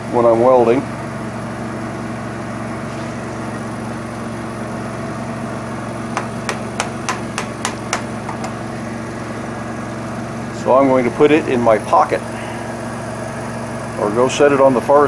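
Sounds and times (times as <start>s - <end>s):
low machine hum with tones: 0.0s - 15.0s.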